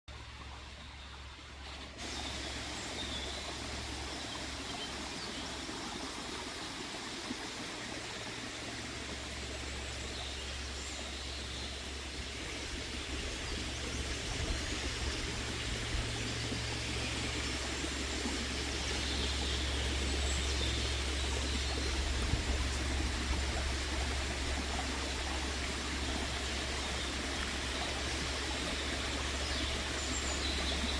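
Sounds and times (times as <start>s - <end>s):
forest stream rushing: 0.1s - 30.9s.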